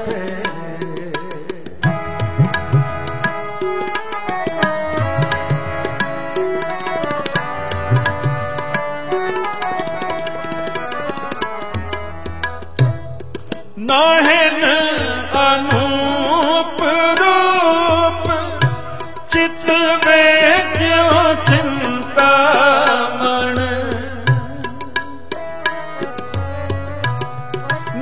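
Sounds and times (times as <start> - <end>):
tabla drumming: 0.0 - 28.0.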